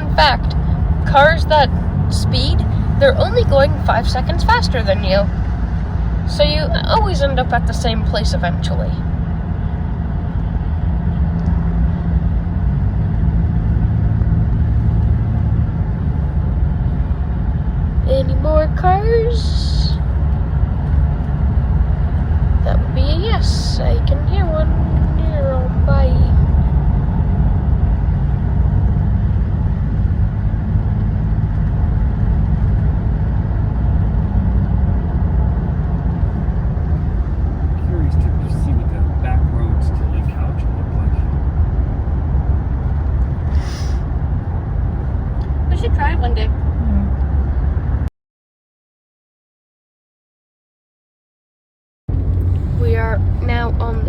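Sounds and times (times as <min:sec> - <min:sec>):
car engine and road hum: 0:00.0 - 0:48.1, 0:52.1 - 0:54.0.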